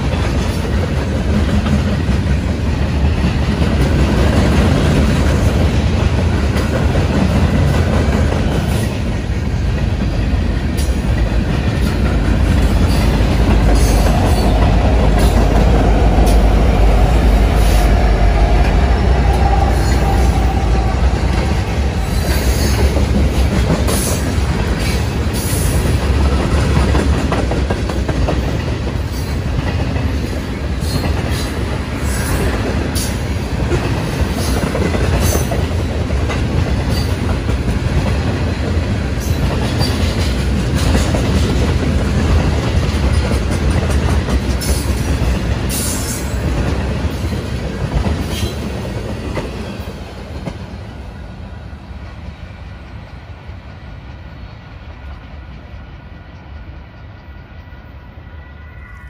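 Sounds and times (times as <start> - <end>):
train cars rumbling over rails: 0.0 - 59.0.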